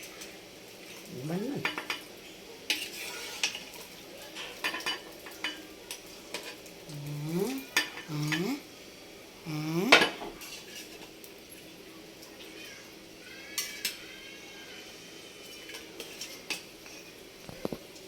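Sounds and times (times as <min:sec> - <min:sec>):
light sizzle: 0:00.0 - 0:18.0.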